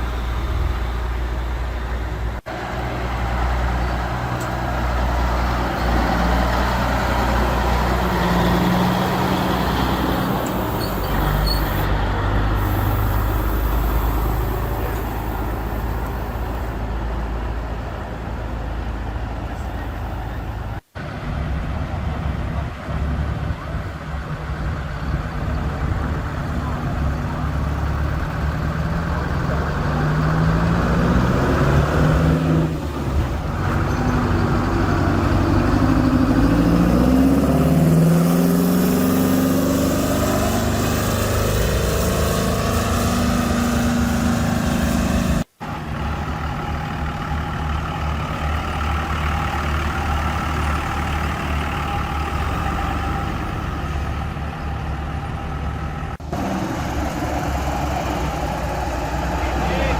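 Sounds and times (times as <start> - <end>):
truck engine accelerating: 0.0 - 59.9
truck engine running steadily: 0.0 - 59.9.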